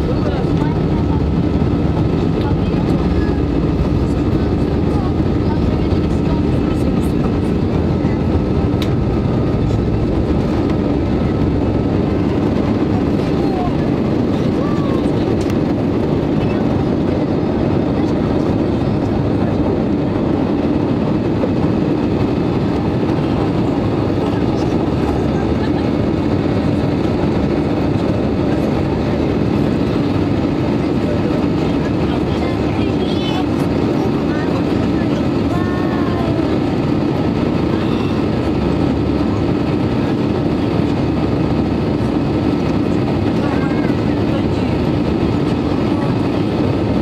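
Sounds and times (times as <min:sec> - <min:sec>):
constant low hum: 0:00.0 - 0:47.0
engine and wheel rumble: 0:00.0 - 0:47.0.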